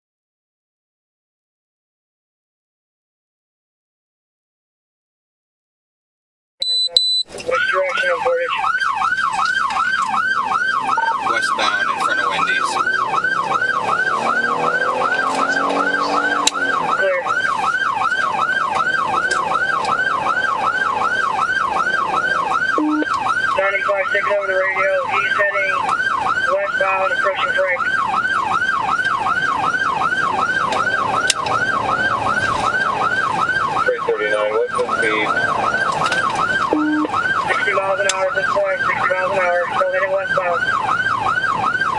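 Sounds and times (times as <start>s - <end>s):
police siren yelping: 6.6s - 41.9s.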